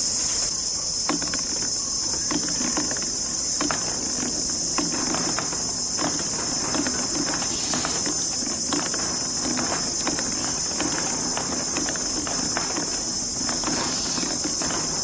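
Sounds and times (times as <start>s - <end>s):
marbles rolling down plastic track: 0.9s - 15.0s.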